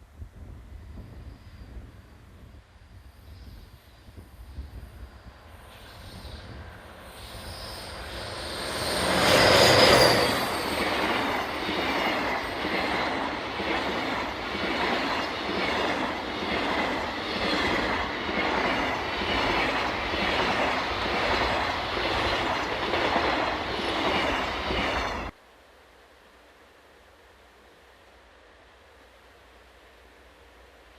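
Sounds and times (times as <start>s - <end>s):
diesel locomotive engines: 0.2s - 25.4s.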